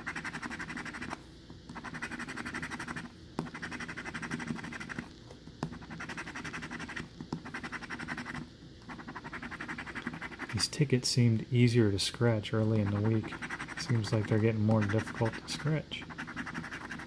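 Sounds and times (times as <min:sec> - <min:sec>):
lottery ticket being scratched: 0:00.0 - 0:05.1, 0:05.7 - 0:10.8, 0:12.3 - 0:17.0.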